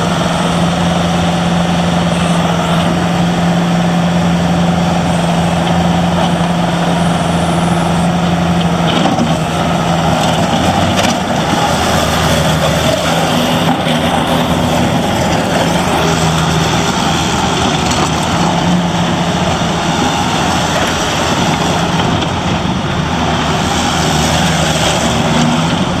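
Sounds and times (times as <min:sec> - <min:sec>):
diesel engine drone: 0:00.0 - 0:26.0.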